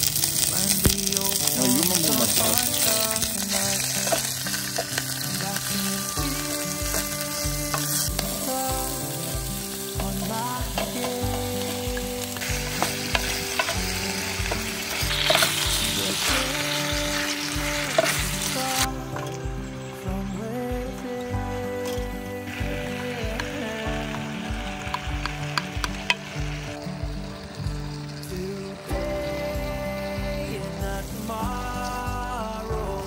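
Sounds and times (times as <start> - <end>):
background music with steady beat: 0.0 - 33.0
food sizzling in a hot pan: 0.0 - 33.0.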